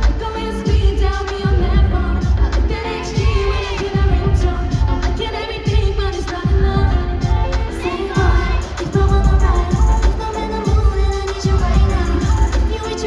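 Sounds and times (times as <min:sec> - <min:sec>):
deep bass thumps: 0:00.0 - 0:12.7
live pop music with singing: 0:00.0 - 0:13.0.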